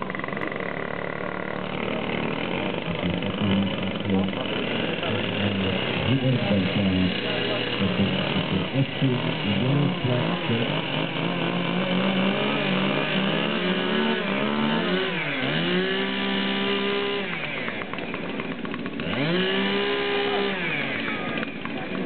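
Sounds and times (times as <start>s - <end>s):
chainsaw engine revving: 0.0s - 22.0s.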